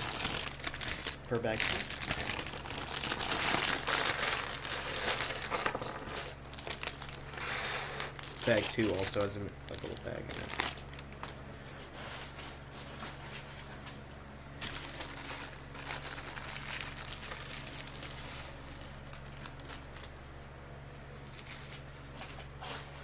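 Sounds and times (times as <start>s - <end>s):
plastic bag crinkling: 0.0s - 13.8s, 14.6s - 20.3s, 21.2s - 23.0s.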